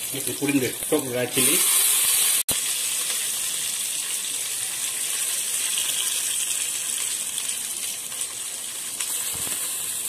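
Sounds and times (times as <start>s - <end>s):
chilies sizzling in hot oil: 0.0s - 10.0s.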